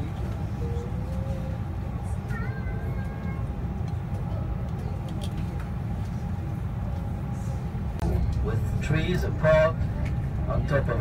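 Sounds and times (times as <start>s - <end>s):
bus engine and tyres rumbling: 0.0s - 11.0s.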